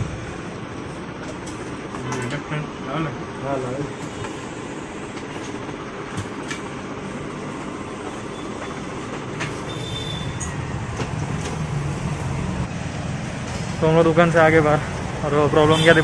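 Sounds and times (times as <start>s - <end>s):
street hiss and rumble: 0.0s - 16.0s.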